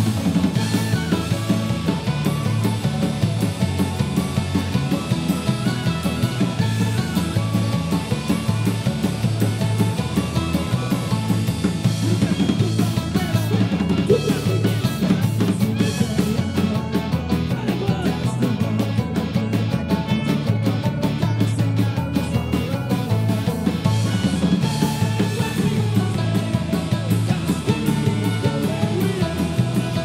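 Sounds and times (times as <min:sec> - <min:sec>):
drum kit driving beat: 0:00.0 - 0:30.0
punk band playing live: 0:00.0 - 0:30.0.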